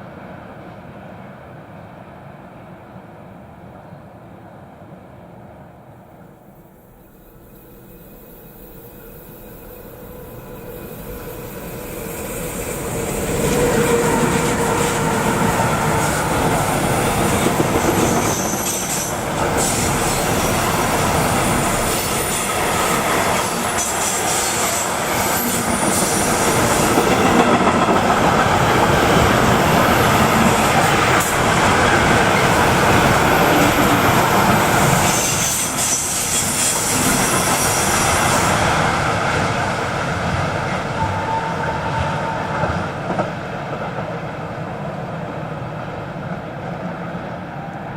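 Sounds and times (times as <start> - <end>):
freight train rolling past: 0.0 - 47.9.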